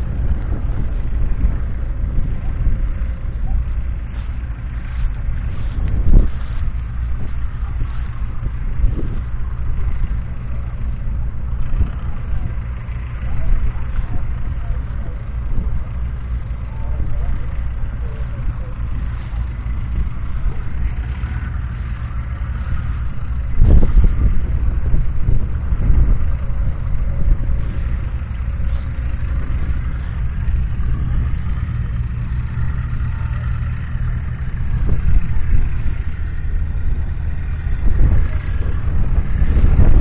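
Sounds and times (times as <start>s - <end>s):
tractor diesel engine running: 0.0s - 40.0s
wind buffeting microphone: 0.0s - 40.0s.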